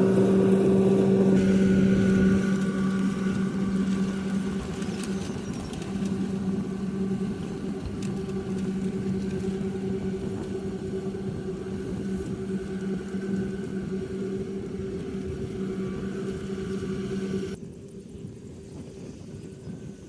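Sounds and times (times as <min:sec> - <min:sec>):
combine harvester droning: 0:00.0 - 0:17.6.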